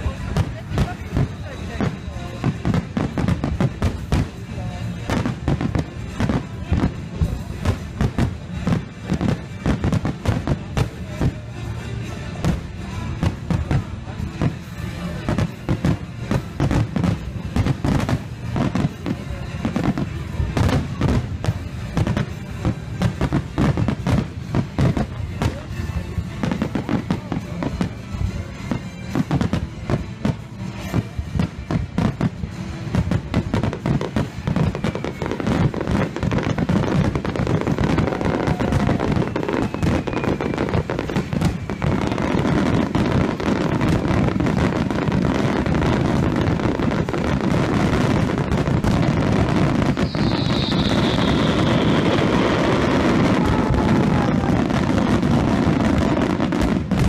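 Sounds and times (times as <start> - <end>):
fireworks bursting and crackling: 0.0 - 57.0
music: 0.0 - 57.0.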